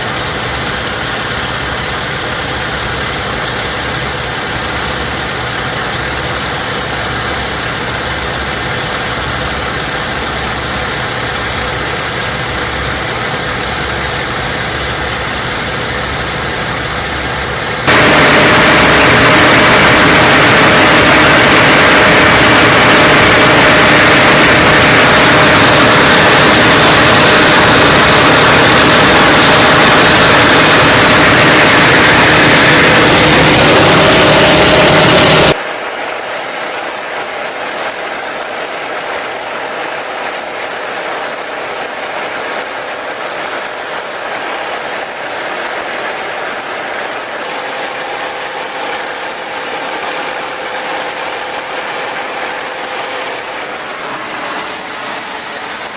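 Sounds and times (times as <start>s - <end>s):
radial aircraft engine running: 0.0s - 35.6s, 41.1s - 55.9s.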